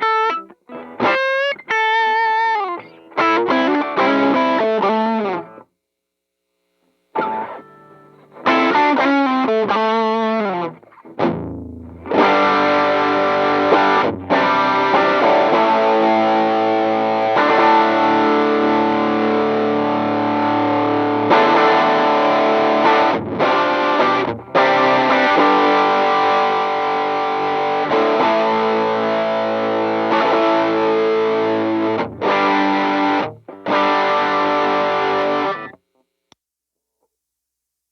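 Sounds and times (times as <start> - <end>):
distorted electric guitar: 0.0 - 5.7, 7.0 - 36.0.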